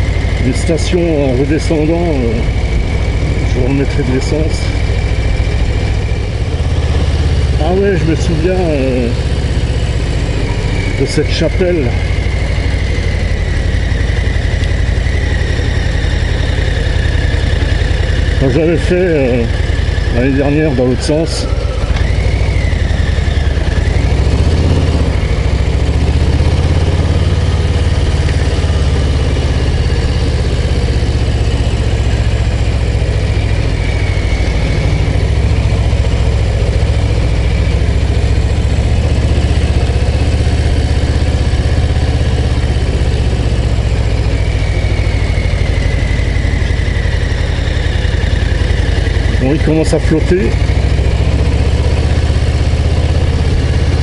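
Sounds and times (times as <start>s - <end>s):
motorcycle engine rumble: 0.0s - 54.0s.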